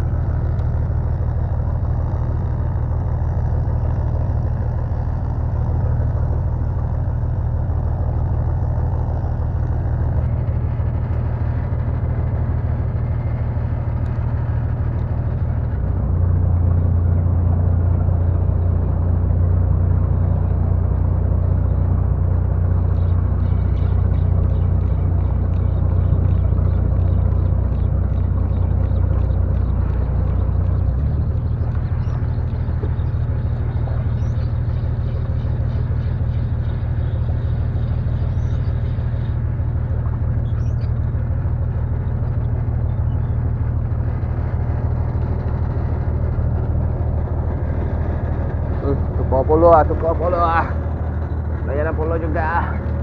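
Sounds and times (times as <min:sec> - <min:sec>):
boat engine droning: 0:00.0 - 0:53.0.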